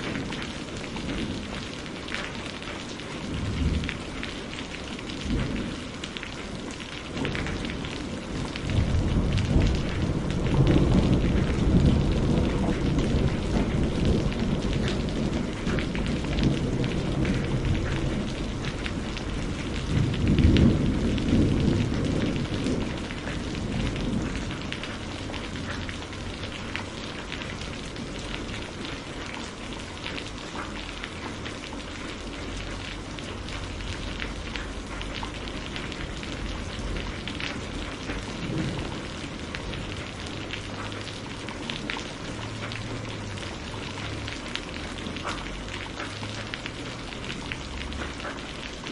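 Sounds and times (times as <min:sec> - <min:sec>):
thunder rumbling: 0:00.0 - 0:29.8, 0:30.6 - 0:48.9
rain pattering: 0:00.0 - 0:48.9.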